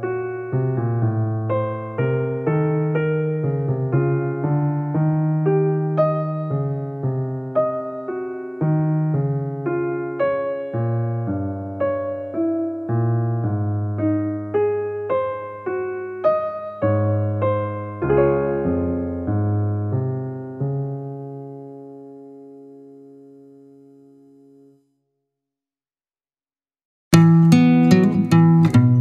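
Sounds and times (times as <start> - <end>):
piano music: 0.0 - 24.9, 27.1 - 29.0.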